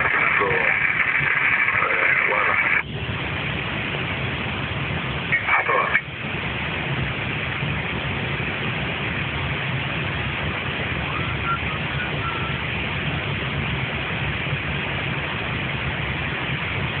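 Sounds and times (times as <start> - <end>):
aircraft cockpit drone: 0.0 - 17.0.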